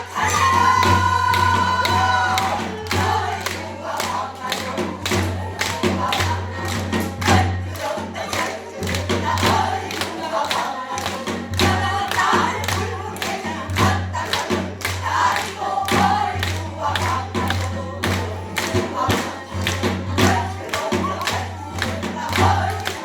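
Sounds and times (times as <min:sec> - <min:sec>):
people singing folk song: 0:00.0 - 0:23.0
percussive strikes: 0:00.0 - 0:23.0.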